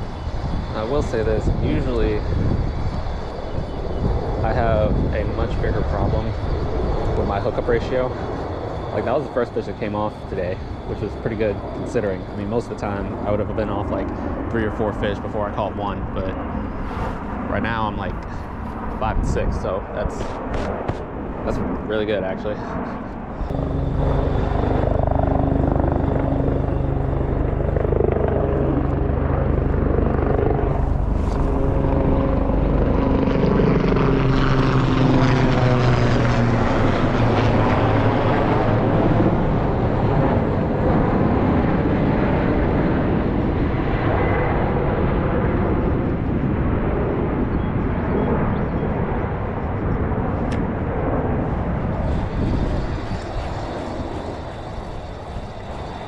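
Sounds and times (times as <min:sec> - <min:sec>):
low aircraft flying overhead: 0:00.0 - 0:56.0.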